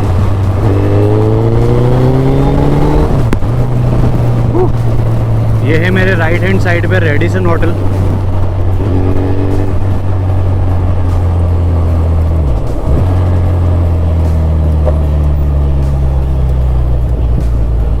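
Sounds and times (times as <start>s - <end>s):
motorcycle engine running: 0.0s - 18.0s
rushing wind: 0.0s - 18.0s.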